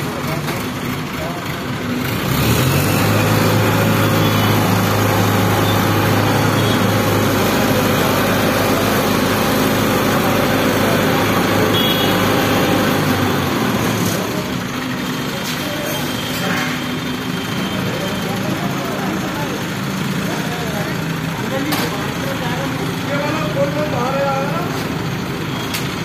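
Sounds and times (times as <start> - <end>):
crane diesel engine droning: 0.0 - 26.0.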